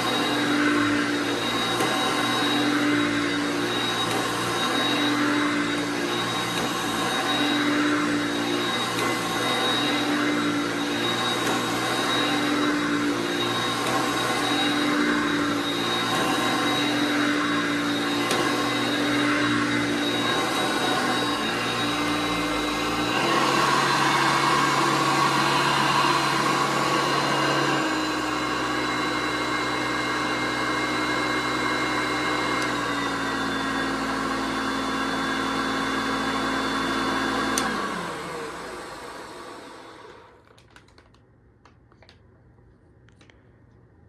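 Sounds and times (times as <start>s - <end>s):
vacuum cleaner running: 0.0s - 40.6s.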